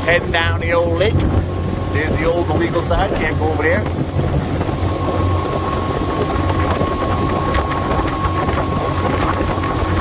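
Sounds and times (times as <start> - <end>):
outboard motor drone: 0.0 - 10.0
wind buffeting microphone: 0.0 - 10.0.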